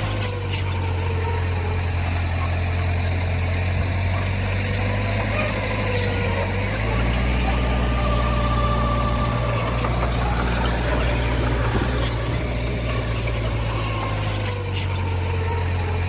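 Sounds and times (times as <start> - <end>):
diesel engine running: 0.0 - 16.0
metallic clanks: 0.0 - 16.0.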